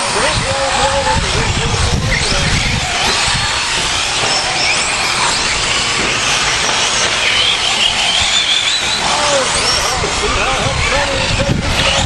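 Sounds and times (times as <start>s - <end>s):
electric motors whining: 0.0s - 12.0s
steady noisy background: 0.0s - 12.0s.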